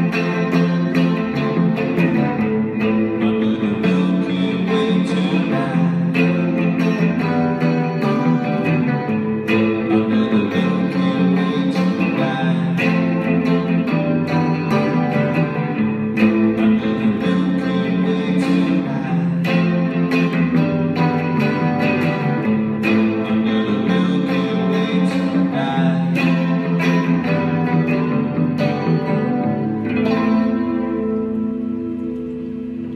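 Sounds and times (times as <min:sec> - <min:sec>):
electric bass line: 0:00.0 - 0:32.9
electric guitar strumming chords: 0:00.0 - 0:32.9.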